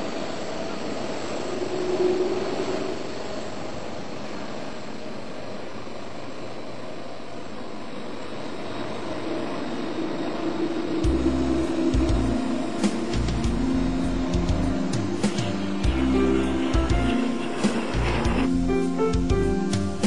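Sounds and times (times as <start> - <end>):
jet engines whining at low power: 0.0 - 20.0.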